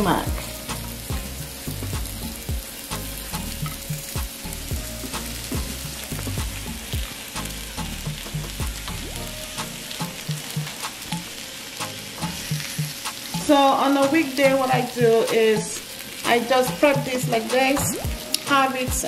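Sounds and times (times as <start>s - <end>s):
fish sizzling on a grill: 0.0s - 19.0s.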